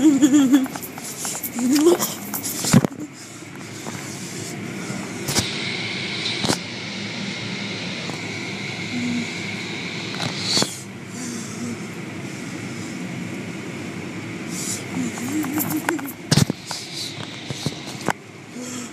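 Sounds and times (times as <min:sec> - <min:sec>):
car wash machinery: 0:00.0 - 0:18.9
high whine: 0:00.0 - 0:18.9.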